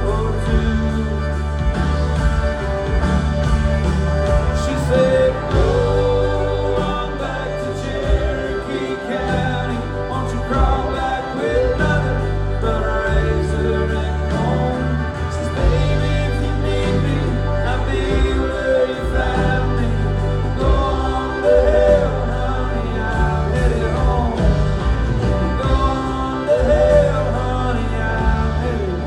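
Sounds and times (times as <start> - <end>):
bass guitar: 0.0 - 29.0
country band performing: 0.0 - 29.0
person singing: 0.0 - 29.0
steady drum beat: 0.0 - 29.0.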